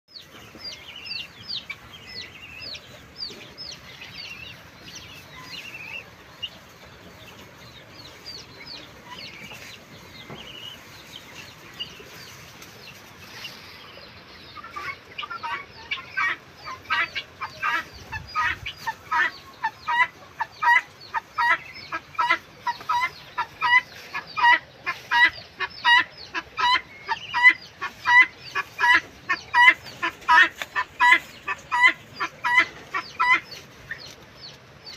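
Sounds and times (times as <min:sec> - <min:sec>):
guinea fowl calling: 0:00.1 - 0:13.6, 0:14.4 - 0:34.2.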